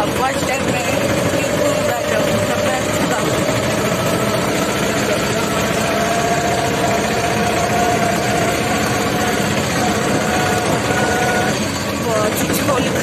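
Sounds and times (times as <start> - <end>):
auto-rickshaw engine drone: 0.0 - 13.0
road and wind noise: 0.0 - 13.0
steady whine: 0.0 - 13.0.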